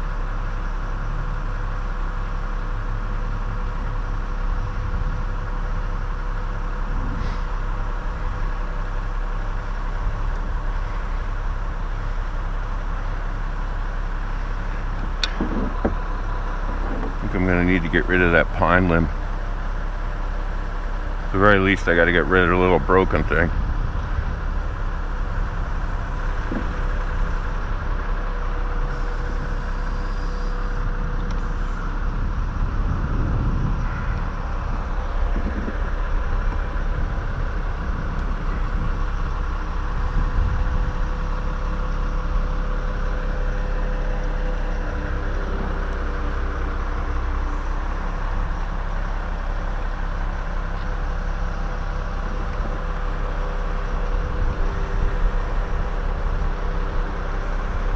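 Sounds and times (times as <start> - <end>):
truck engine running: 0.0 - 57.9.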